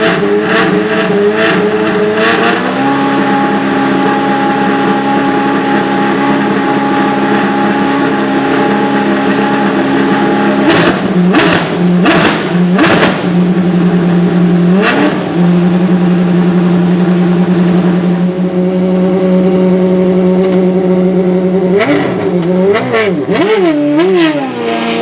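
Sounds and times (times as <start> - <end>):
race car engine idling and blipping: 0.0 - 25.0.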